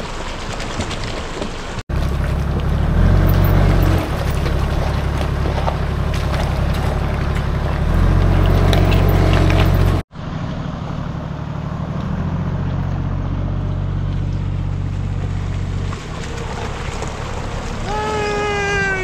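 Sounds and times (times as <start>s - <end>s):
water sloshing around wheels: 0.0s - 19.0s
diesel engine running: 1.9s - 19.0s.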